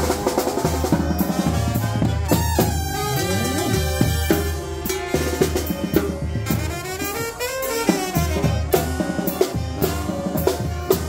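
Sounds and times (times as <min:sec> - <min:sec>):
wind band playing brass and clarinets: 0:00.0 - 0:11.0.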